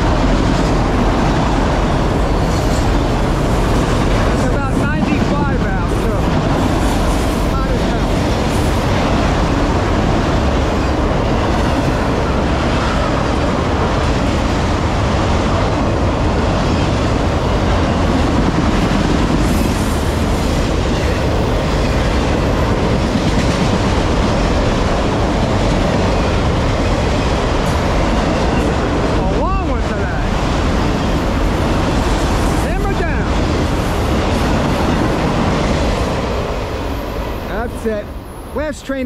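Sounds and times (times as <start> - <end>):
freight train wheels rumbling on rail: 0.0 - 39.0.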